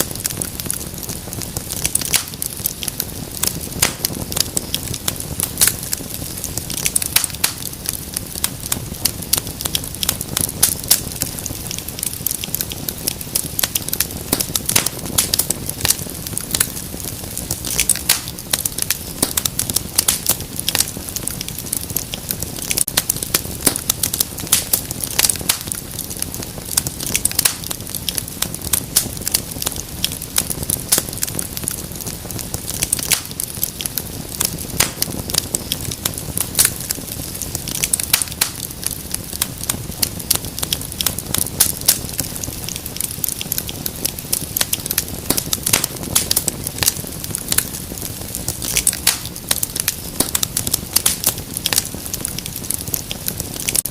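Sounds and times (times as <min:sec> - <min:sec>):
rush of flame: 0:00.0 - 0:53.9
wood fire crackling: 0:00.0 - 0:53.9.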